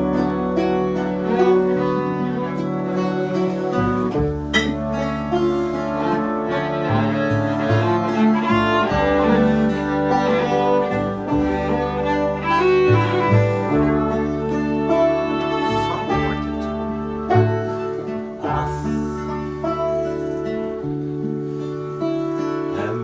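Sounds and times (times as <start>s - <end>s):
acoustic guitars: 0.0s - 23.0s
banjo: 0.0s - 23.0s
bass guitar notes: 0.0s - 23.0s
violin: 0.0s - 23.0s.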